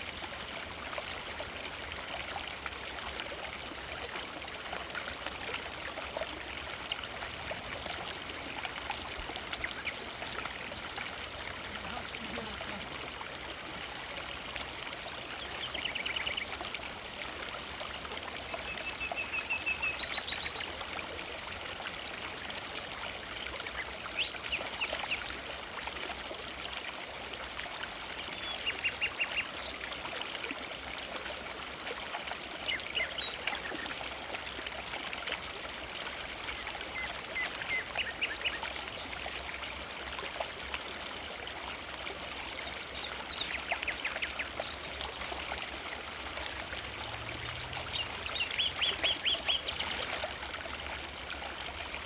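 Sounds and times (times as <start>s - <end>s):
river flowing: 0.0s - 52.0s.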